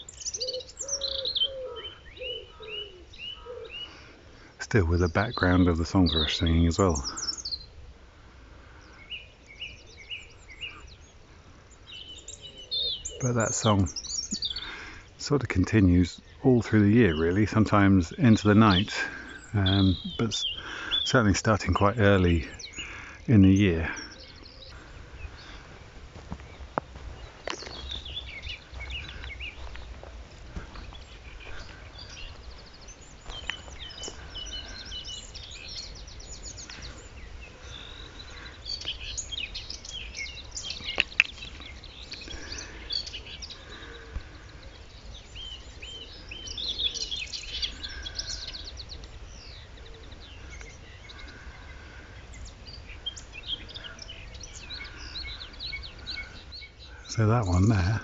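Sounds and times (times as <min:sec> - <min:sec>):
bird singing scratchy notes: 0:00.0 - 0:07.8, 0:08.8 - 0:58.0
small birds singing: 0:00.0 - 0:58.0.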